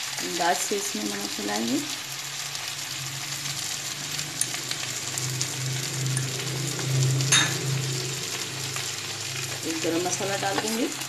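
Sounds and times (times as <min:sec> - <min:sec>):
potatoes sizzling in a pan: 0:00.0 - 0:11.0
low hum: 0:02.1 - 0:11.0.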